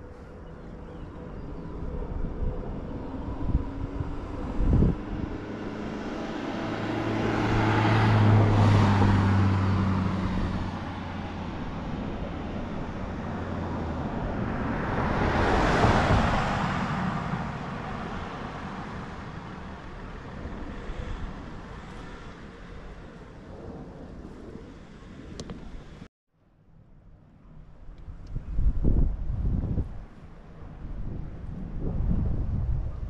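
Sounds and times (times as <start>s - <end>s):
road vehicles passing: 0.0s - 33.0s.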